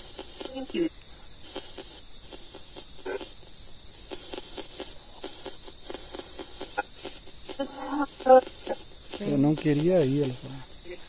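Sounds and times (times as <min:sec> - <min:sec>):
choppy radio static pulses: 0:00.0 - 0:11.0
steady hiss: 0:00.0 - 0:11.0.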